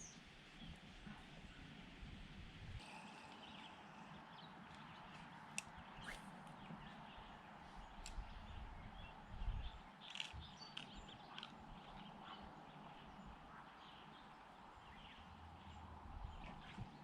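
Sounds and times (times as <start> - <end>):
faint bird chirps: 2.8 - 17.0.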